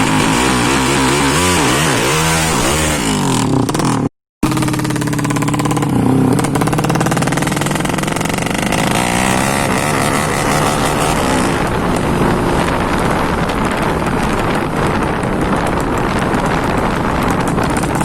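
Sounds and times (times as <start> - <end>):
motorcycle engine running loudly: 0.0 - 18.0.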